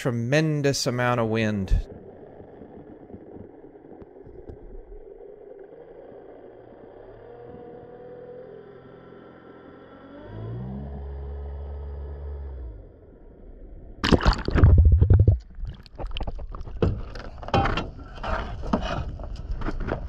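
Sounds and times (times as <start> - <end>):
boat engine droning underwater: 0.9 - 18.1.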